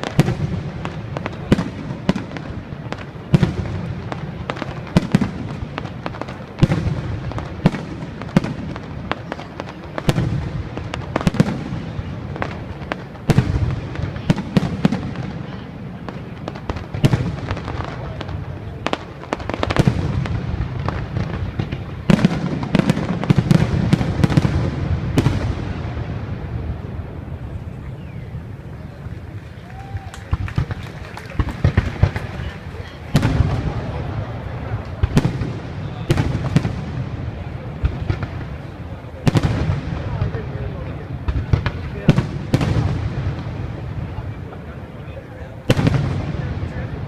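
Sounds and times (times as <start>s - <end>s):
fireworks bangs and booms: 0.0s - 47.0s.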